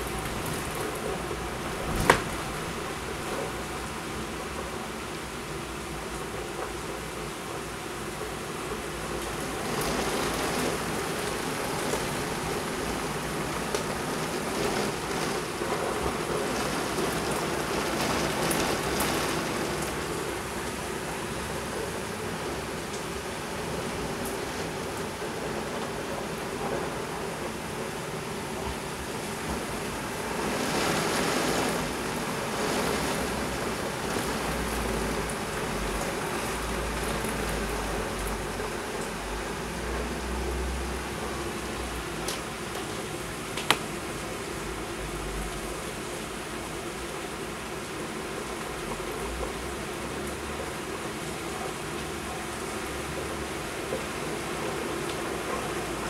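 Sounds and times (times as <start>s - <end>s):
torrential rain on pavement: 0.0s - 56.0s.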